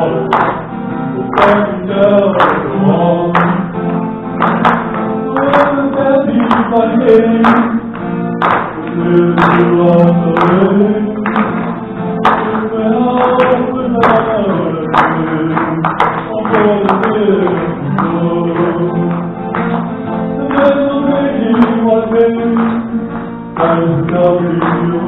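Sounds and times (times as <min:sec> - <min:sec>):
acoustic guitar strumming: 0:00.0 - 0:25.0
man singing: 0:00.0 - 0:25.0.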